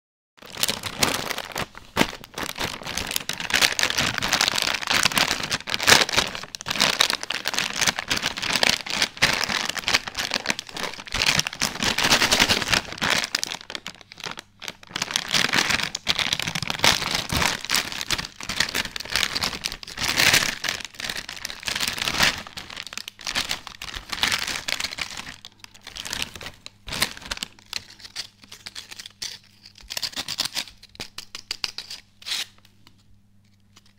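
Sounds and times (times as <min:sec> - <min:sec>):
foil chip packet crinkling: 0:00.4 - 0:31.9.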